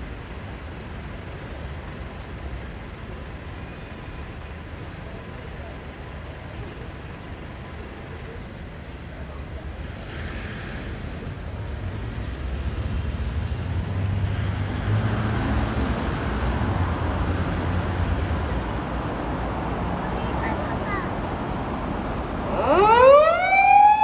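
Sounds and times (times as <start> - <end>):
road noise: 0.0 - 24.0
vehicle engine rumble: 0.0 - 24.0.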